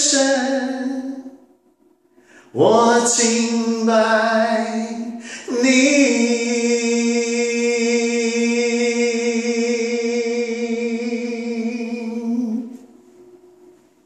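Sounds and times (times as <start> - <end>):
man singing unaccompanied: 0.0 - 1.4, 2.5 - 12.8.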